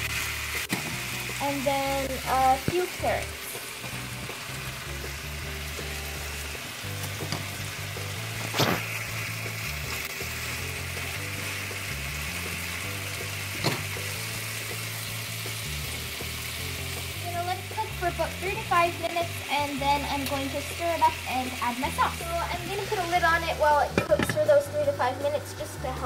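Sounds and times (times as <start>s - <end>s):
food sizzling in a frying pan: 0.0s - 26.0s
soft background music: 0.0s - 26.0s.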